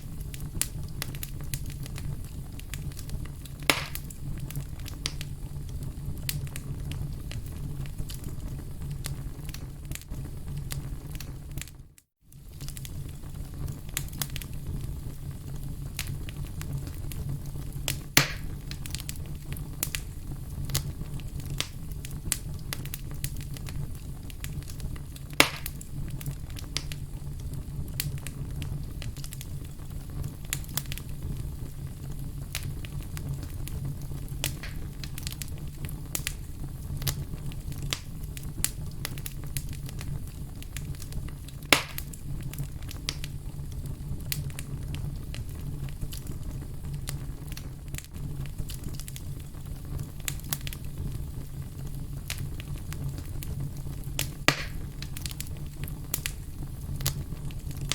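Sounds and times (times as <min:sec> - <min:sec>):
loud fire pops: 0:00.0 - 0:11.8, 0:12.4 - 0:57.9
fire crackling: 0:00.0 - 0:57.9
low fire rumble: 0:00.0 - 0:57.9.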